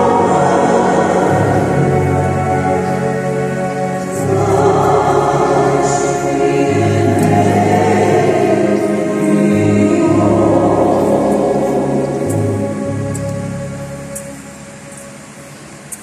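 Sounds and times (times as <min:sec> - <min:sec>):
choir singing sacred music: 0:00.0 - 0:16.0.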